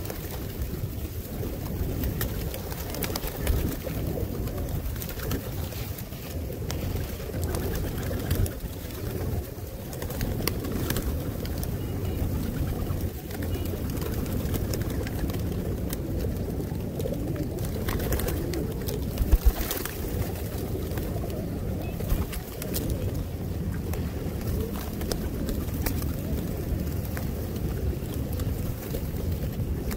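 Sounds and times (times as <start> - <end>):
pigeons cooing: 0.0 - 29.9
wings fluttering: 0.0 - 29.9.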